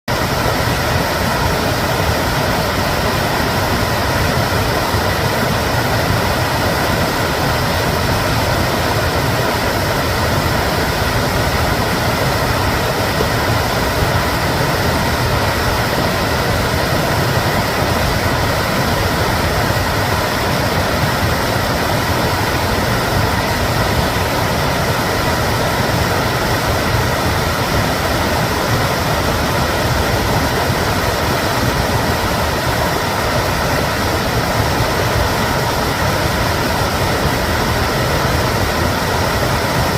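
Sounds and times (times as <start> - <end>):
flood water rushing: 0.1 - 39.9.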